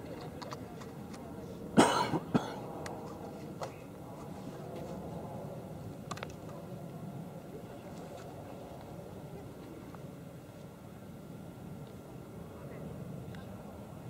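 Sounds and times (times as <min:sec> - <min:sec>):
faint voices: 0:00.0 - 0:14.0
low outdoor background noise: 0:00.0 - 0:14.0.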